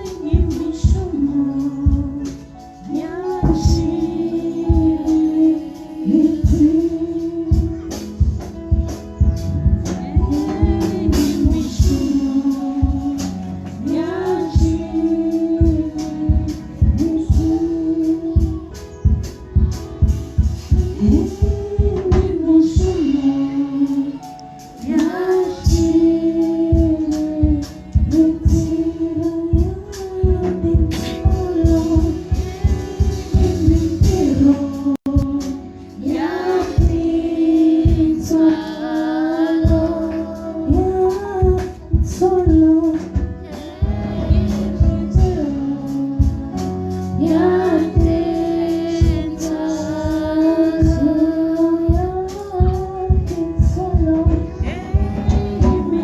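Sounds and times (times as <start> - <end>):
gospel singing over a beat: 0.0 - 56.0.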